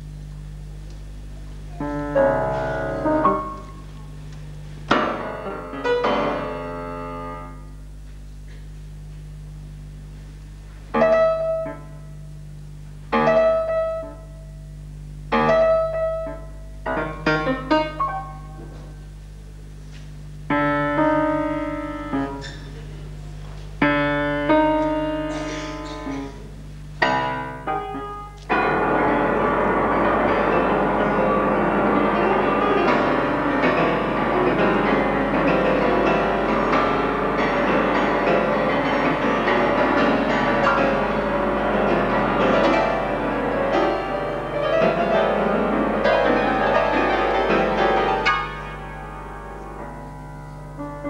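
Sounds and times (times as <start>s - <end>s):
loud piano chords: 0.0s - 8.0s, 9.7s - 19.7s, 20.3s - 23.2s, 23.8s - 51.0s
steady low hum: 0.0s - 51.0s.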